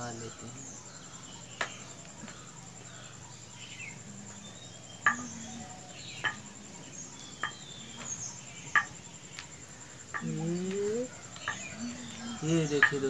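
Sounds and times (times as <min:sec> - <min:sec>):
faint high chirps: 0:00.0 - 0:13.0
thin steady high tone: 0:00.0 - 0:13.0.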